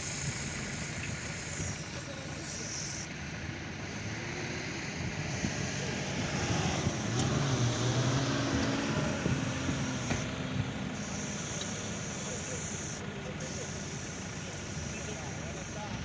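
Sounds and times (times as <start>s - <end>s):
steady hiss: 0.0s - 3.1s, 5.2s - 10.3s, 10.9s - 16.0s
off-road engine working hard: 0.0s - 16.0s.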